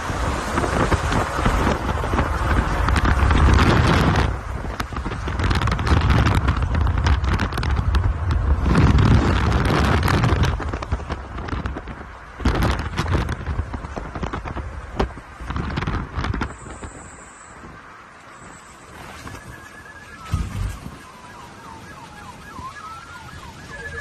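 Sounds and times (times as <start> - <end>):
wind buffeting microphone: 0.0 - 18.1, 18.8 - 24.0.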